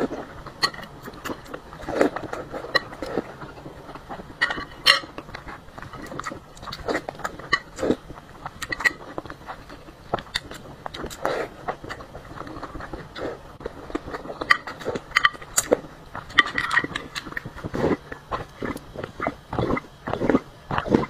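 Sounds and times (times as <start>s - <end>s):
broth slurping: 0.0s - 21.0s
chewing with wet mouth clicks: 0.0s - 21.0s.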